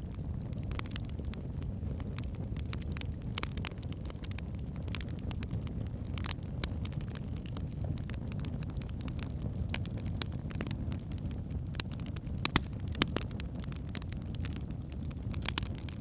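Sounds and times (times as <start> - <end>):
fire crackling and popping: 0.0 - 16.0
low rumble of log fire: 0.0 - 16.0.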